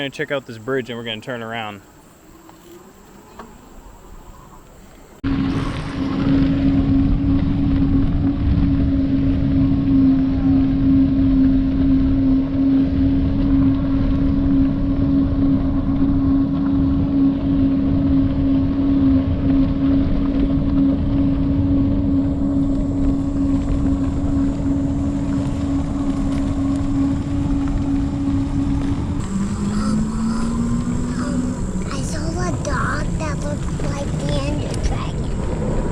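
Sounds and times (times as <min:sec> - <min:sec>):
bicycle tyre rumble: 0:00.0 - 0:35.9
steady hum: 0:00.0 - 0:35.9
wind rushing over microphone: 0:03.6 - 0:35.9.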